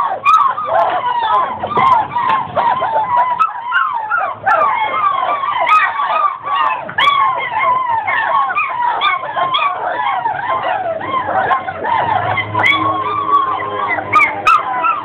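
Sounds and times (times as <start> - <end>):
puppies whining and crying: 0.0 - 15.0.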